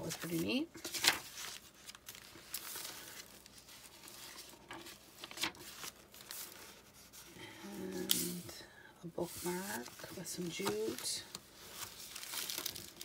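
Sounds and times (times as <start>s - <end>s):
paper pages turning: 0.0s - 8.4s, 9.3s - 13.0s.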